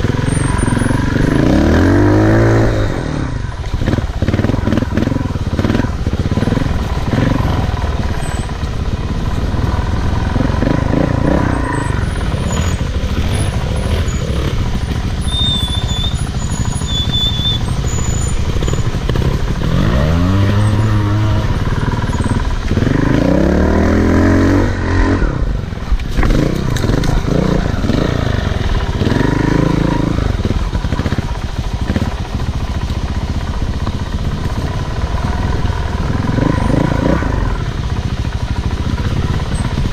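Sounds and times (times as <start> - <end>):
off-road motorcycle revving: 0.0 - 39.9.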